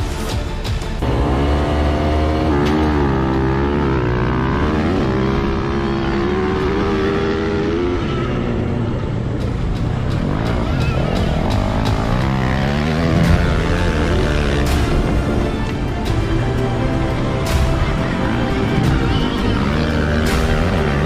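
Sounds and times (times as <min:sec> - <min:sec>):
motorcycle engine revving: 0:00.6 - 0:21.0.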